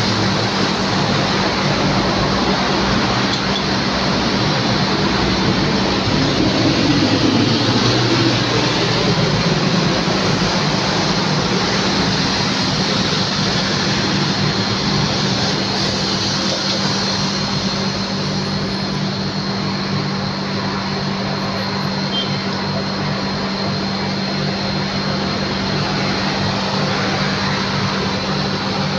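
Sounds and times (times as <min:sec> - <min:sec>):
jet airliner engines running: 0:00.0 - 0:28.9.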